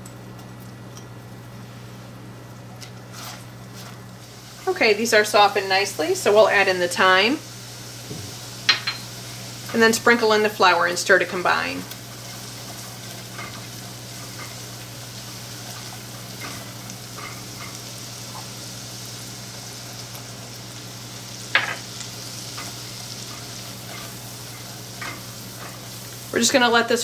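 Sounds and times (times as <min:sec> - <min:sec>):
butter sizzling in a saucepan: 0:04.2 - 0:27.0.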